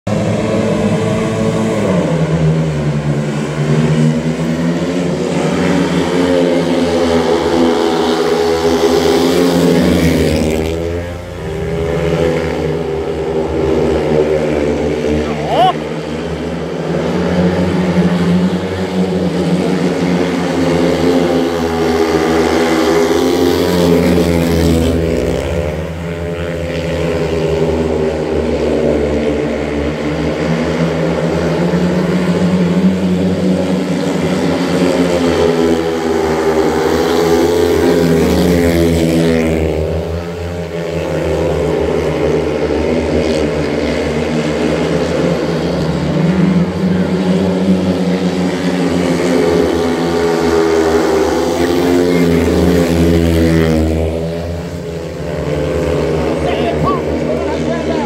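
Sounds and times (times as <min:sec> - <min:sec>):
motorcycle engines racing: 0:00.0 - 0:58.0.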